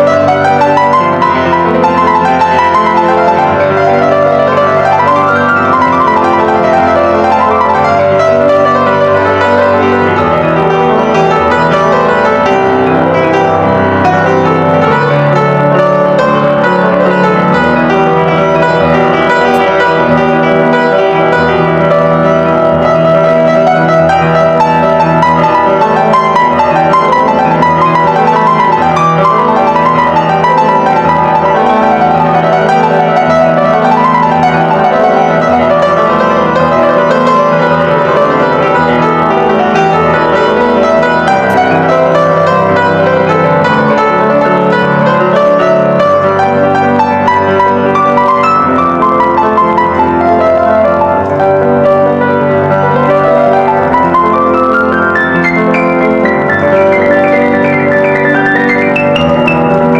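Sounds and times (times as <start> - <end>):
live piano music: 0.0 - 59.9.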